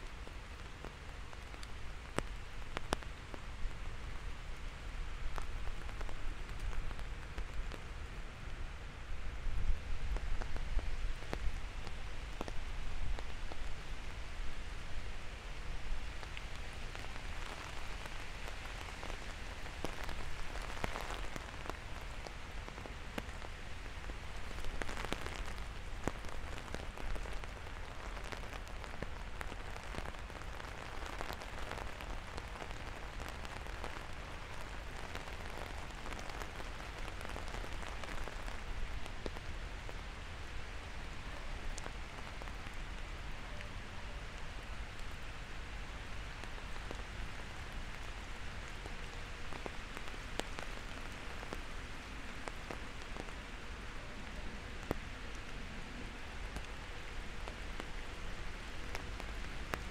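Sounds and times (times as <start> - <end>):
rain pattering on hard surfaces: 0.0 - 59.9.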